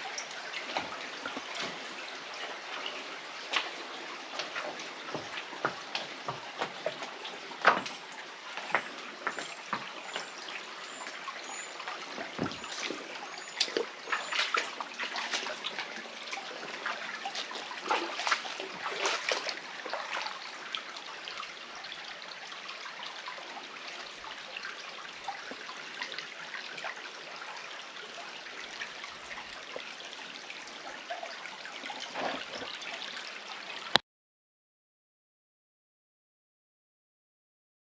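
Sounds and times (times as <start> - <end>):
stream running over rocks: 0.0 - 34.0.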